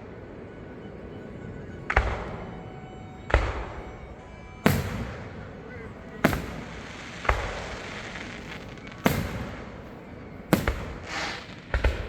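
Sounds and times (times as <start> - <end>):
fireworks booming: 0.6 - 12.0.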